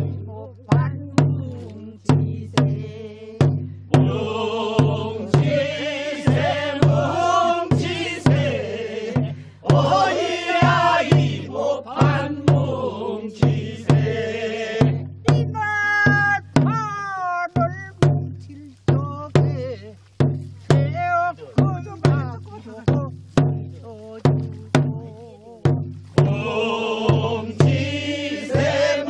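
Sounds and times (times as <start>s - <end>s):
group of voices singing: 0.0s - 15.6s, 20.7s - 29.0s
drum steady beat: 0.0s - 29.0s.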